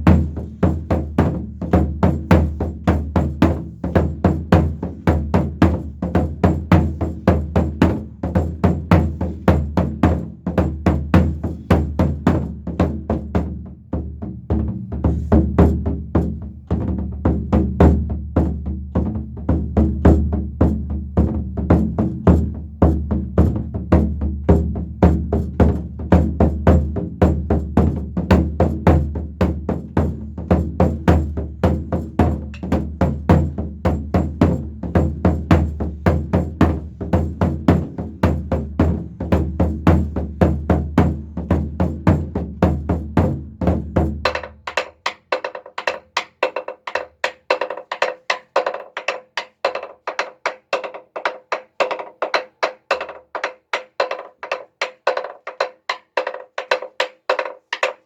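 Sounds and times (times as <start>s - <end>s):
drum played with sticks: 0.0s - 58.0s.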